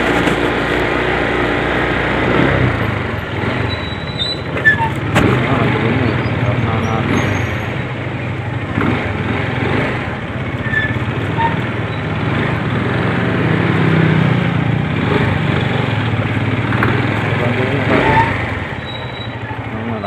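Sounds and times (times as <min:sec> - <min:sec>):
road noise: 0:00.0 - 0:20.0
vehicle engine running: 0:00.0 - 0:20.0.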